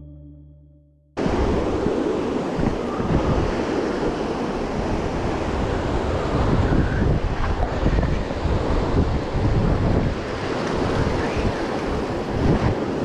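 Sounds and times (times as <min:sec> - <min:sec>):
wind buffeting microphone: 0:01.2 - 0:13.0.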